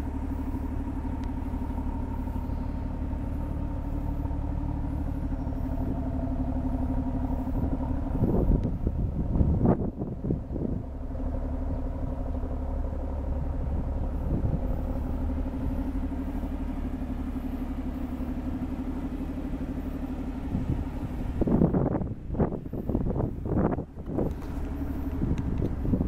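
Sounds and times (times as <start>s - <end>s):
rotary engine idling: 0.0s - 26.0s.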